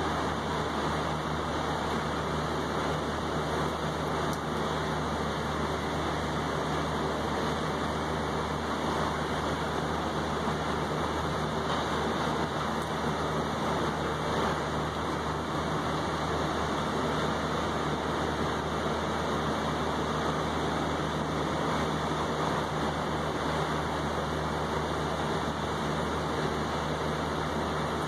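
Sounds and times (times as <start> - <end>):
rain on wet railing: 0.0 - 28.0.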